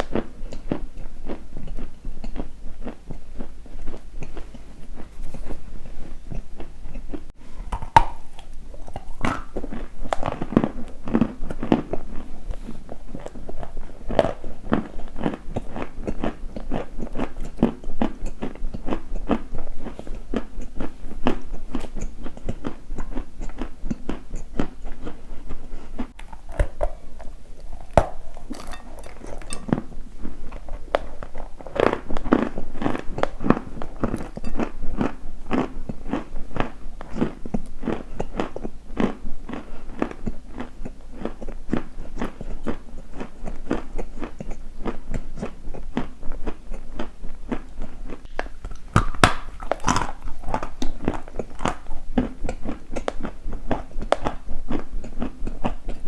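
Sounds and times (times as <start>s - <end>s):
crunching bites and chewing: 0.0s - 56.0s.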